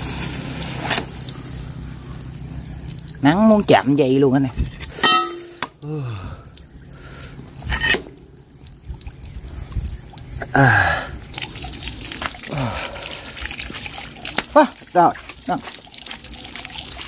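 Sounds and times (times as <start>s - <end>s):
tap water splashing on metal: 0.8s - 5.8s, 6.6s - 10.5s, 11.3s - 17.0s.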